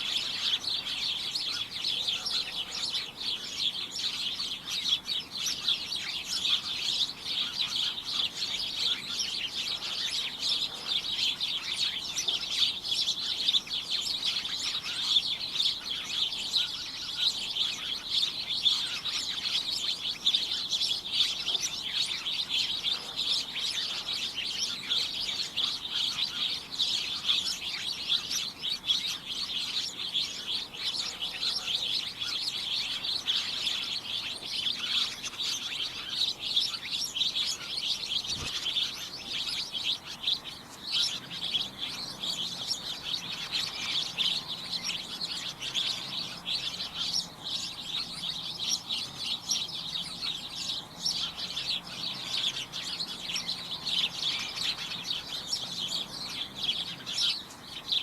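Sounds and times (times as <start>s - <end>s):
flock of small birds chirping: 0.0s - 58.0s.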